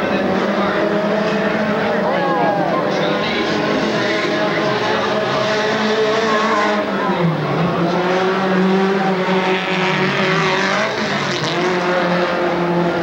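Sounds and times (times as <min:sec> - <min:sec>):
race vehicle engines revving: 0:00.0 - 0:13.0.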